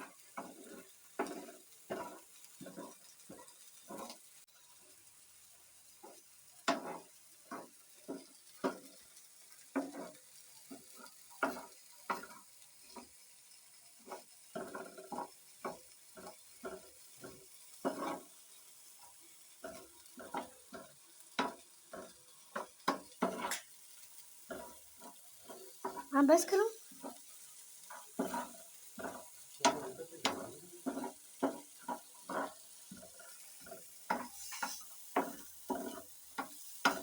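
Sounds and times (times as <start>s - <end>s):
spoon scraping frying pan: 0.0s - 5.0s, 5.8s - 37.0s
faint sizzle: 0.0s - 37.0s.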